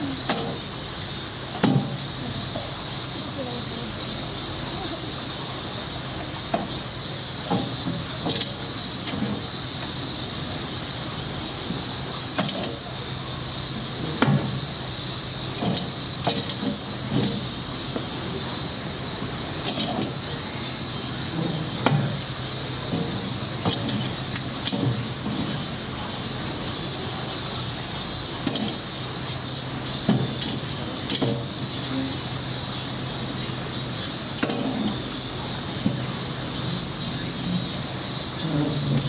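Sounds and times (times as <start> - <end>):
steady high hiss: 0.0 - 39.0.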